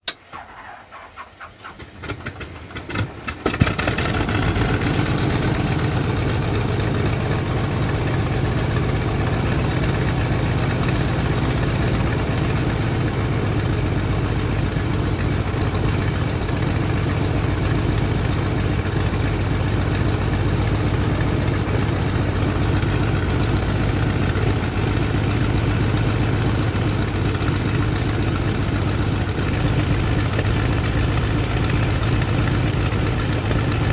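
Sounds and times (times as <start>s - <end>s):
piston engine starting and idling: 0.0s - 33.9s.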